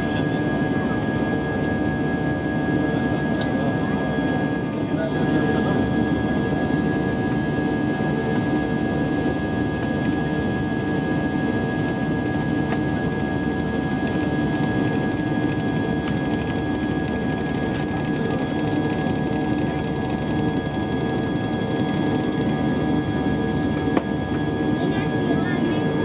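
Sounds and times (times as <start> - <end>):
constant whining tones: 0.0 - 26.0
jet engine cabin rumble: 0.0 - 26.0.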